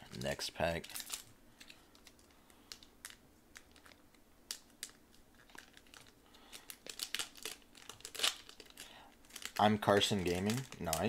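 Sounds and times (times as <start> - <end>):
foil wrapper crinkling: 0.1 - 11.0.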